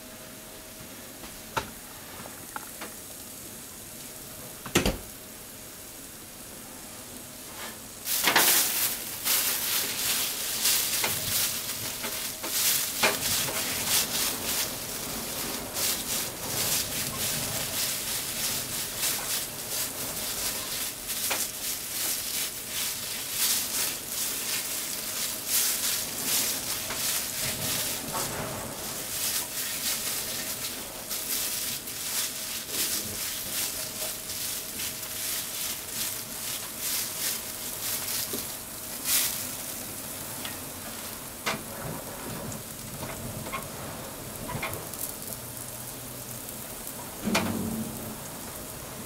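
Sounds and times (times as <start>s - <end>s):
chicken sizzling with pops: 1.4s - 49.0s.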